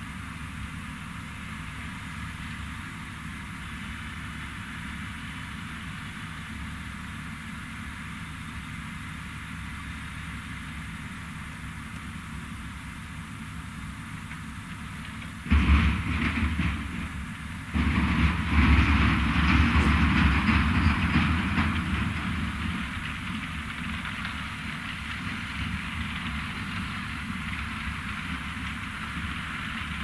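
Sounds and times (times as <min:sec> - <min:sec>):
machine running steadily: 0:00.0 - 0:30.0.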